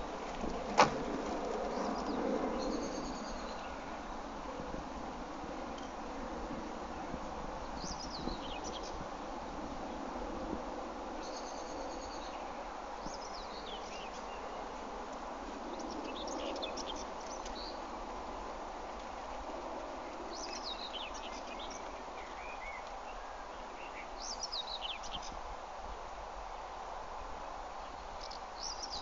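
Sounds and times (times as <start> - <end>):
birds chirping and twittering: 0.0 - 4.7, 5.6 - 9.2, 11.2 - 18.2, 18.8 - 25.4, 27.4 - 29.0
outdoor background hiss: 0.0 - 29.0.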